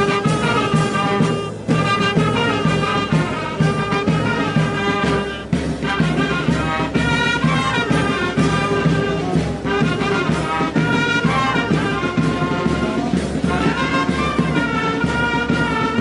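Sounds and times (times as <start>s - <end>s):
brass band playing a march: 0.0s - 16.0s.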